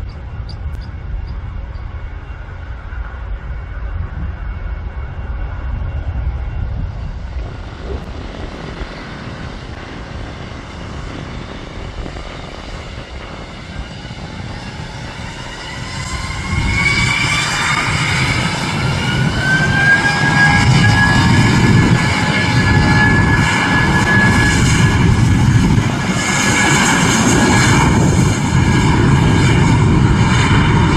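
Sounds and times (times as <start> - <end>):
jet engines rumbling and whining: 0.0 - 30.9.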